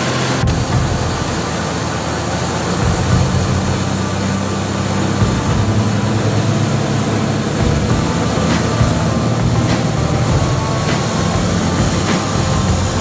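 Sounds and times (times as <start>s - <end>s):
air rushing over cabin: 0.0s - 13.0s
airplane engine and propeller: 0.0s - 13.0s.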